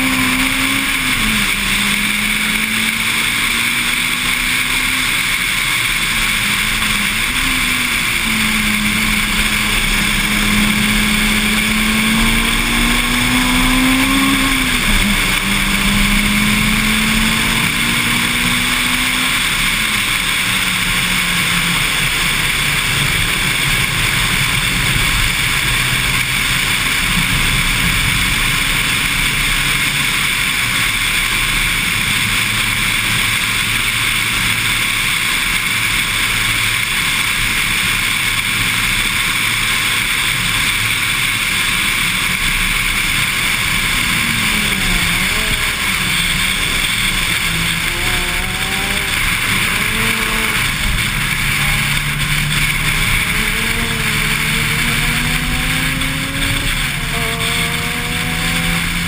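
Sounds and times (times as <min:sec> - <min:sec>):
car engine revving: 0:00.0 - 0:59.0
wind and road noise: 0:00.0 - 0:59.0.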